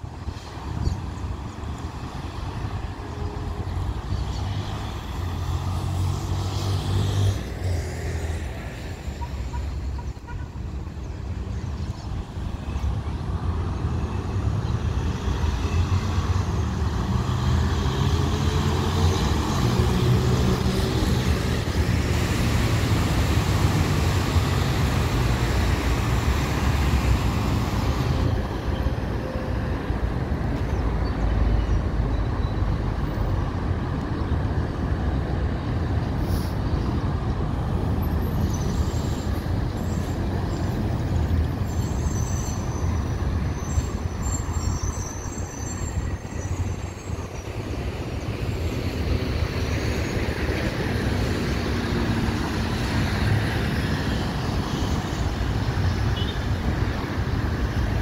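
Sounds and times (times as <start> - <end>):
cars and trucks passing: 0.0 - 58.0.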